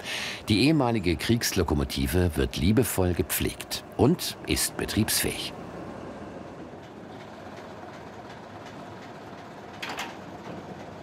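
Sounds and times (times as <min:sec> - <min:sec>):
train moving slowly on rails: 0:00.0 - 0:11.0.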